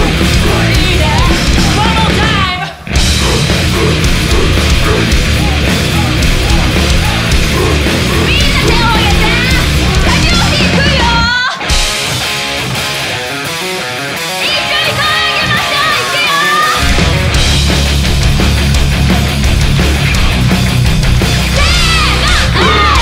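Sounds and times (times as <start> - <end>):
heavy metal band playing: 0.0 - 23.0.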